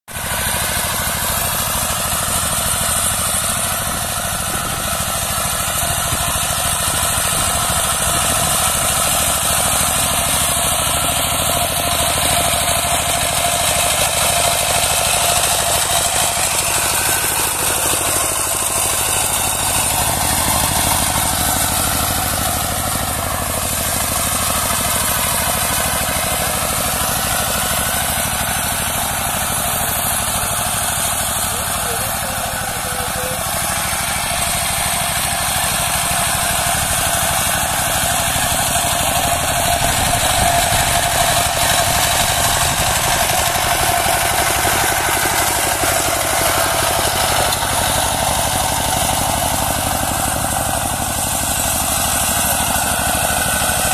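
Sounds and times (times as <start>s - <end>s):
diesel engine running under load: 0.1s - 53.9s
rotary tiller churning soil: 0.1s - 53.9s.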